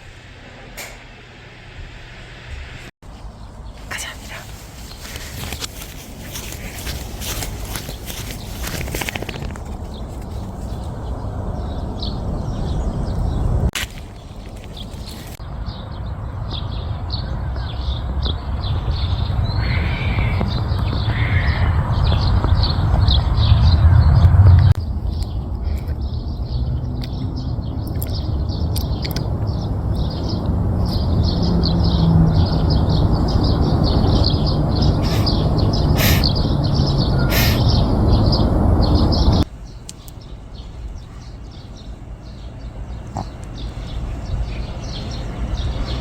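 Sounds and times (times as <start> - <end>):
steady low rumble: 0.0 - 46.0
birds chirping: 3.1 - 46.0.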